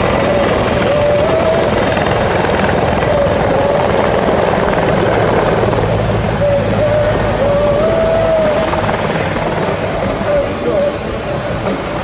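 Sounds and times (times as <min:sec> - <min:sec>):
helicopter rotor and engine noise: 0:00.0 - 0:12.0
turbine whine: 0:00.0 - 0:12.0.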